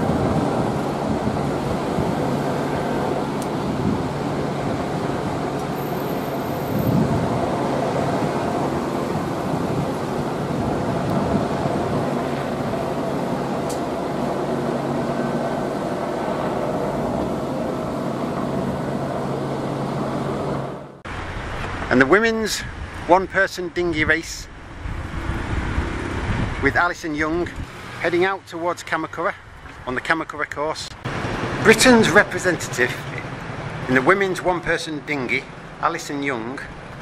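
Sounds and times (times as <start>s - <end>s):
motor vehicles rumbling: 0.0s - 37.0s.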